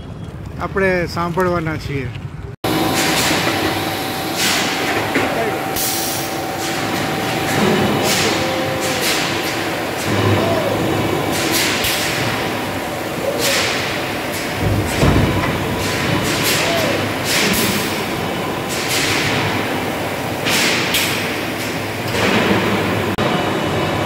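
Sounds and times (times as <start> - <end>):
heavy machinery din: 2.6 - 24.0.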